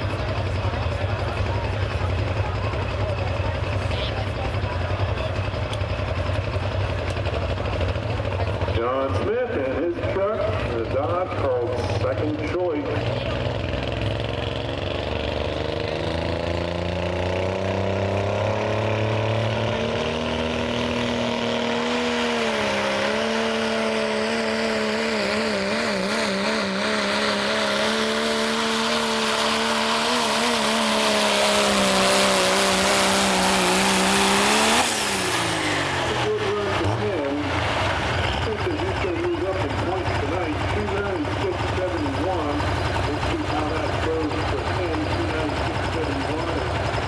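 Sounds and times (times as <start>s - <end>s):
diesel engine at full throttle: 0.0s - 47.0s.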